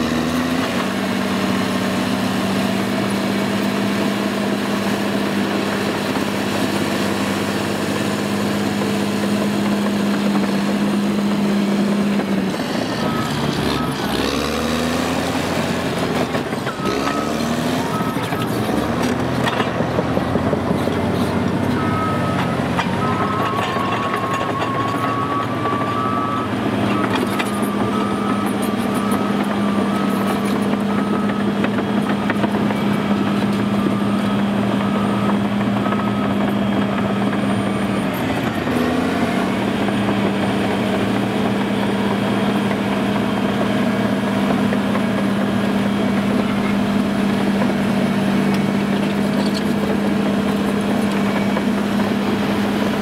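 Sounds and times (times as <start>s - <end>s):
bulldozer diesel engine running: 0.0s - 53.0s
tracks clanking: 2.9s - 53.0s.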